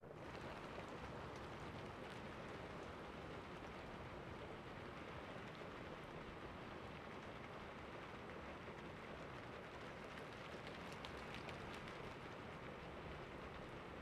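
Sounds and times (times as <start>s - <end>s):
rain on window glass: 0.1s - 14.0s.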